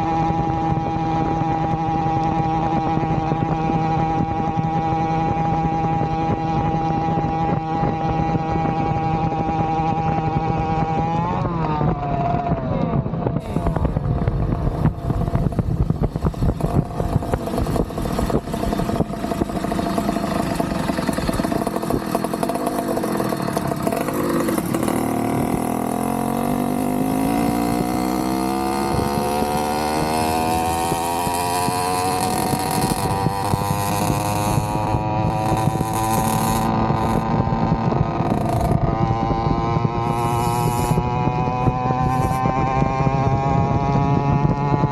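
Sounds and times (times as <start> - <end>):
two-stroke bicycle engine running: 0.0 - 44.9.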